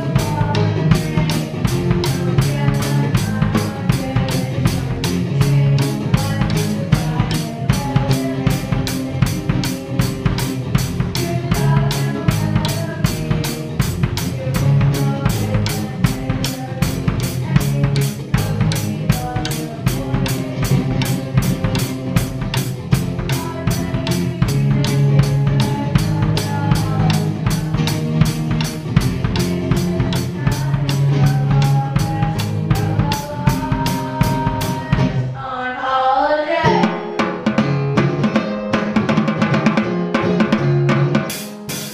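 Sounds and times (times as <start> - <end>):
drum kit beat: 0.0 - 35.4, 36.6 - 41.9
live band playing: 0.0 - 35.4, 36.6 - 41.9.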